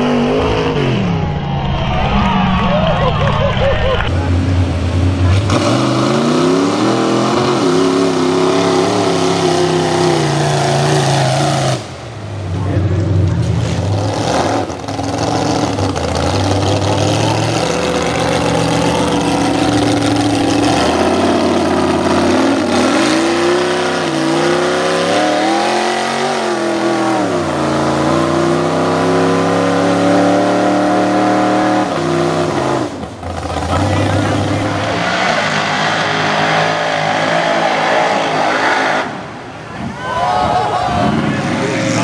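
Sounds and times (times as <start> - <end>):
truck engines revving: 0.0 - 42.0.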